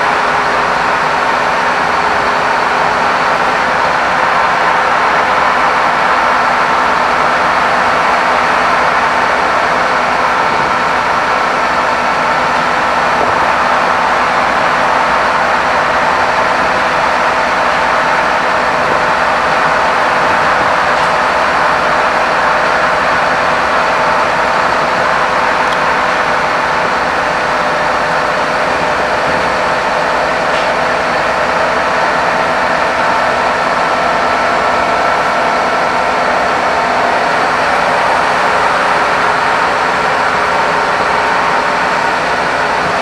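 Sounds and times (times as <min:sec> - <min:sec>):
bus diesel engine running: 0:00.0 - 0:43.0
road and tyre noise: 0:00.0 - 0:43.0.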